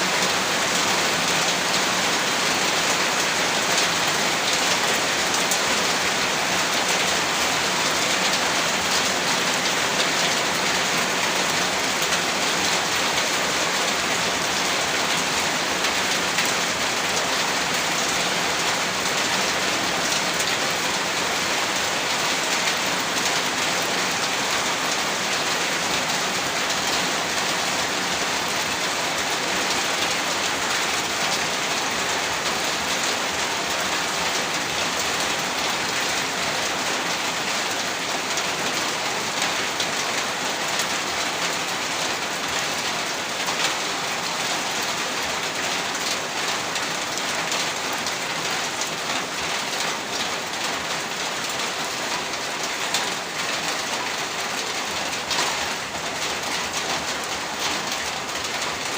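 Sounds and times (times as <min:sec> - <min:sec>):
heavy rain pattering: 0:00.0 - 0:58.9.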